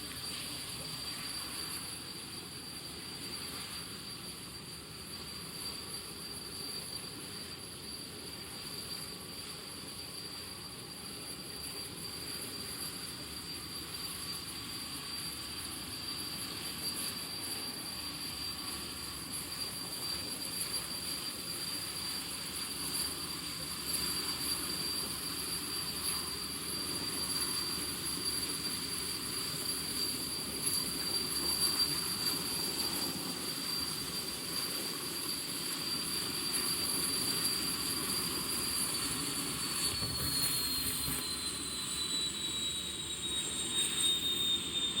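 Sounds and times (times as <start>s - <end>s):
jet engine turbine whine: 0.0s - 45.0s.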